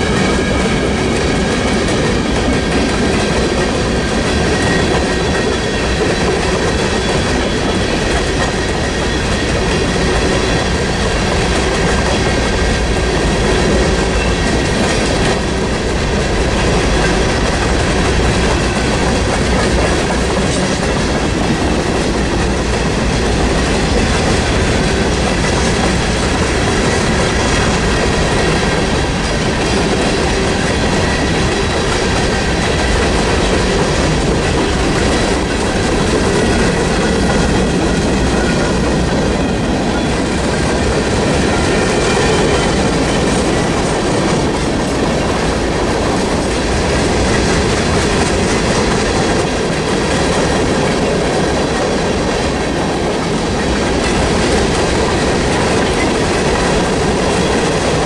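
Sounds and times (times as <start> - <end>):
freight train cars rolling past: 0.0 - 58.0.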